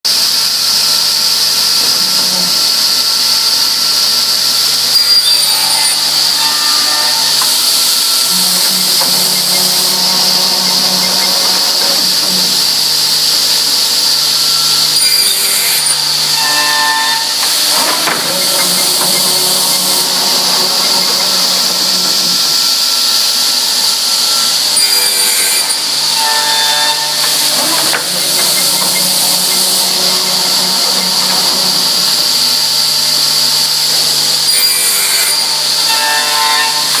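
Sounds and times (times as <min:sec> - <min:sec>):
machine whining over hum: 0:00.2 - 0:37.0.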